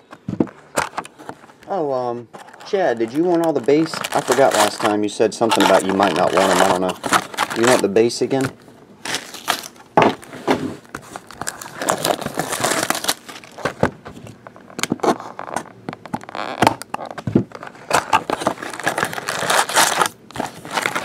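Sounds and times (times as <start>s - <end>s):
foil packs crinkling and rustling: 0.8s - 21.0s.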